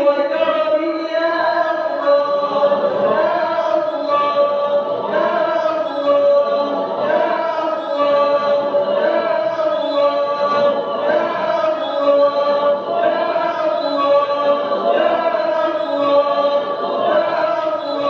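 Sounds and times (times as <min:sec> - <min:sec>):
person chanting a prayer: 0:00.0 - 0:18.0.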